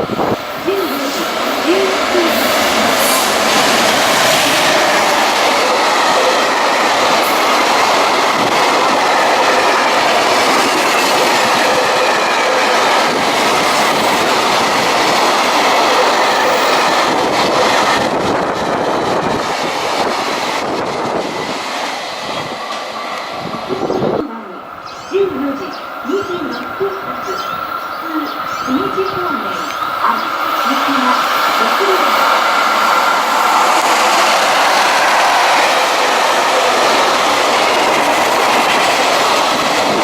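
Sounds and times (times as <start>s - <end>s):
freight train passing: 0.0s - 40.0s
wheels rushing on rails: 0.0s - 40.0s.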